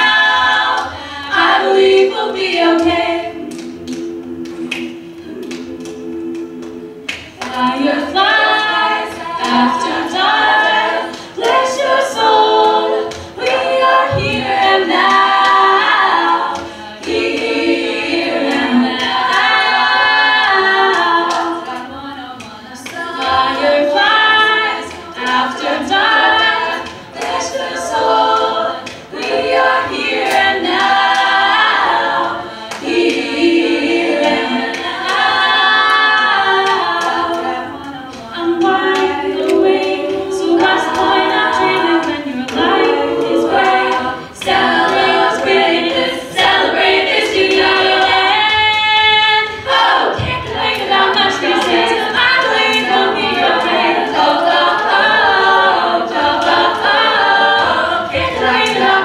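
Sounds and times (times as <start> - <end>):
backing vocal harmonies: 0.0 - 59.0.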